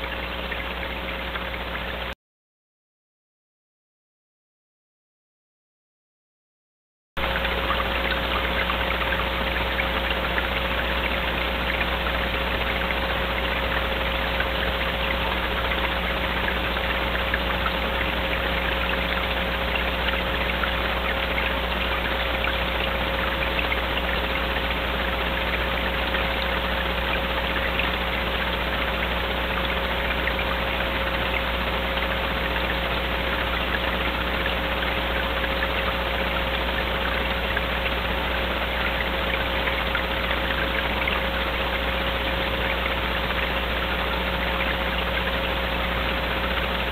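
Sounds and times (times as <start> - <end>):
constant mid-pitched whine: 0.0 - 2.2, 7.2 - 46.9.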